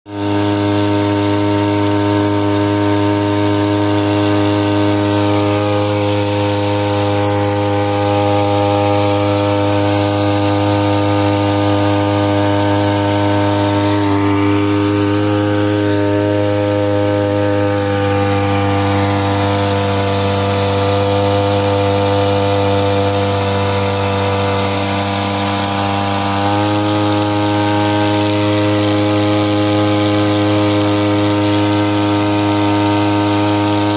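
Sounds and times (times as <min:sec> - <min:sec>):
small outboard engine buzzing: 0:00.1 - 0:33.9.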